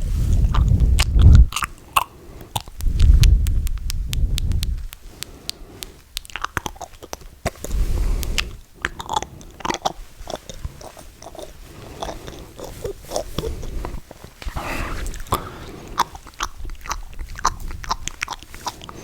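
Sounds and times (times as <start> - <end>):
wet mouth clicks and lip smacks: 0.3 - 13.5, 14.4 - 19.0.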